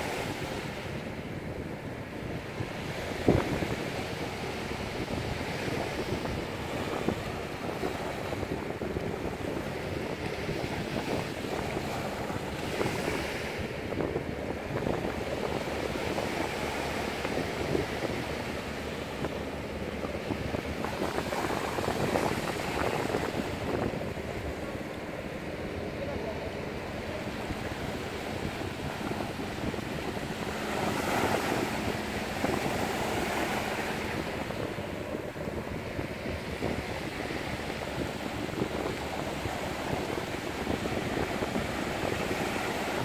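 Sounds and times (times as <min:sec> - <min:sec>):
sea waves washing on shore: 0:00.0 - 0:43.0
wind blowing on microphone: 0:00.0 - 0:43.0.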